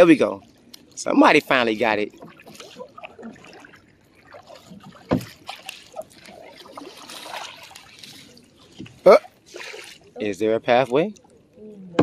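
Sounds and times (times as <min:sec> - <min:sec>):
paddle water sounds: 0:00.0 - 0:12.0.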